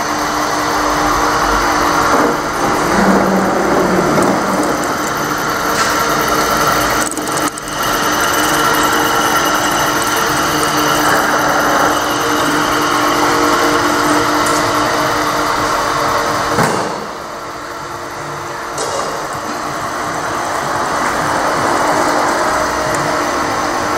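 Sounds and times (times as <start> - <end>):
milling machine whine: 0.0 - 23.9.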